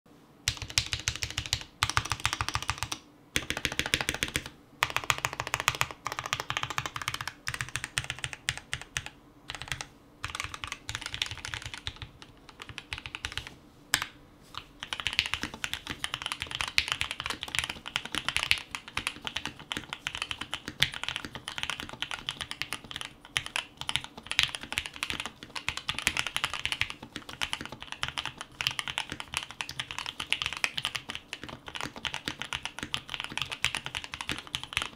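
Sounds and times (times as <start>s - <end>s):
fast typing on mechanical keyboard: 0.5s - 13.5s, 14.8s - 34.9s.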